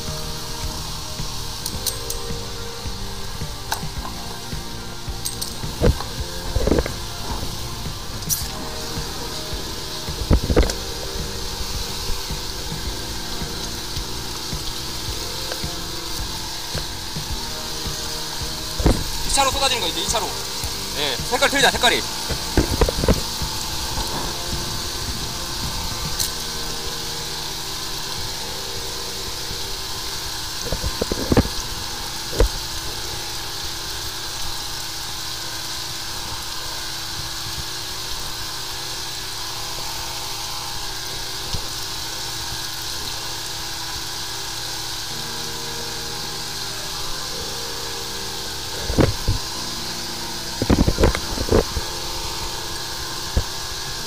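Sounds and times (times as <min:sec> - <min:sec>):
continuous hiss of jetting hose: 0:00.0 - 0:54.0
sewer jetter pump running: 0:00.0 - 0:54.0.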